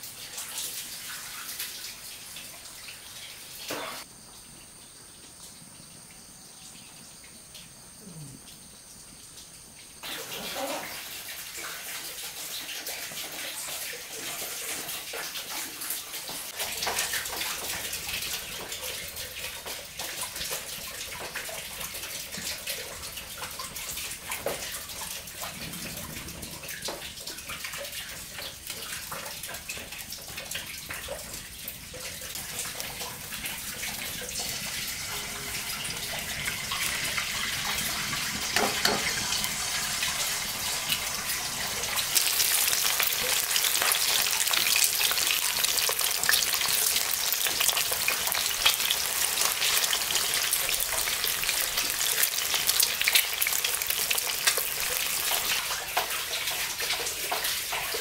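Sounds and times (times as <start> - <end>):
running water rushing: 10.0 - 58.0.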